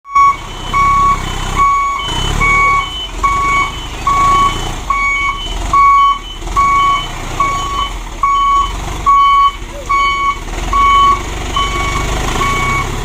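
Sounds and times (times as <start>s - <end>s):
reversing alarm beeping: 0.0s - 13.0s
truck engine rumbling: 0.0s - 13.0s.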